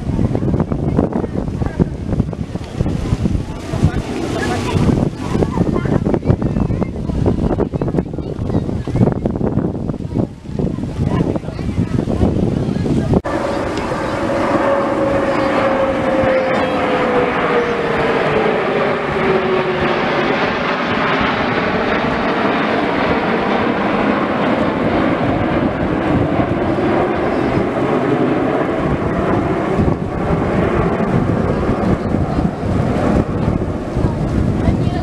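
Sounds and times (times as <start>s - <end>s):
jet engines passing overhead: 0.0s - 35.0s.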